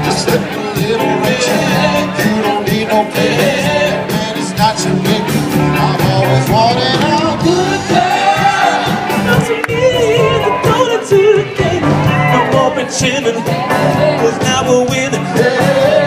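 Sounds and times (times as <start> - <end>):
singers: 0.0 - 16.0
steady drum beat: 0.0 - 16.0.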